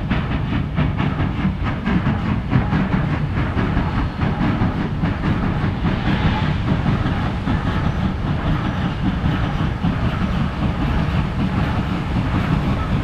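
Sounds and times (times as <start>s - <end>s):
steam locomotive exhaust beats: 0.0s - 13.0s
train rumbling on rails: 0.0s - 13.0s.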